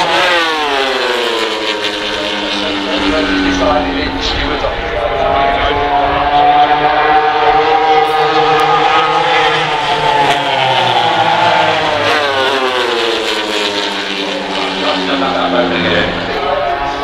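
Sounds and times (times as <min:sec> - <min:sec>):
racing motorcycle passing by: 0:00.0 - 0:17.0.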